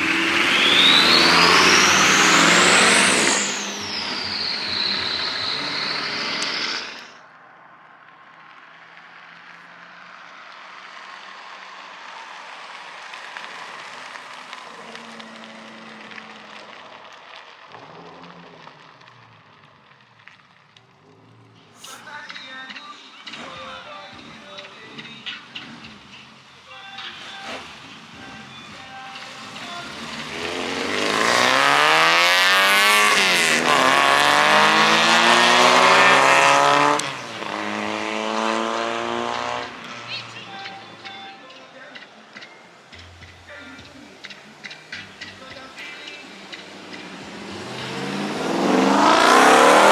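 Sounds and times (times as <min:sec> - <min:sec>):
car driving past: 0:00.0 - 0:22.1, 0:23.4 - 0:41.2, 0:42.3 - 0:49.9.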